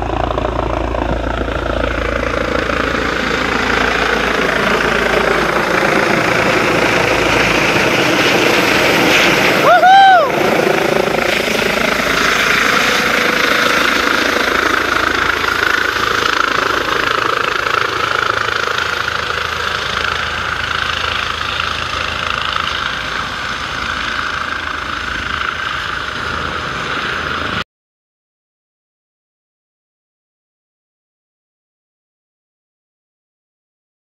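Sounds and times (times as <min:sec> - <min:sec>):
helicopter flying overhead: 0:00.0 - 0:27.7.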